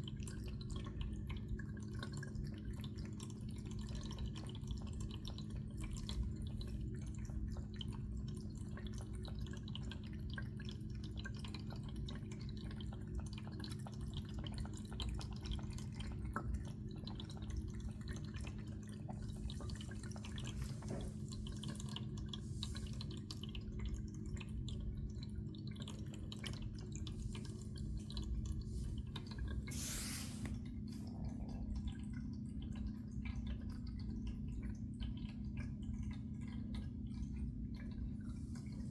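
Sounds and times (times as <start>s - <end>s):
cat lapping water: 0.0s - 38.9s.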